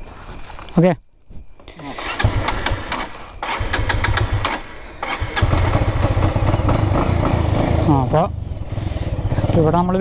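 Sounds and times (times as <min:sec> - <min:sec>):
motorcycle engine starting and running: 0:01.8 - 0:10.0.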